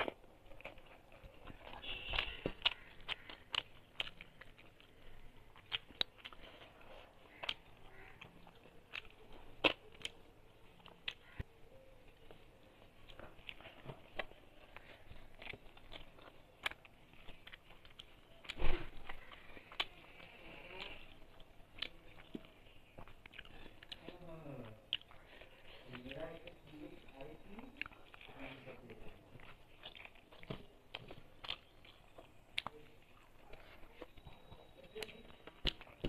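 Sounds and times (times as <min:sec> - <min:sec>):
person chewing: 0:00.0 - 0:36.0.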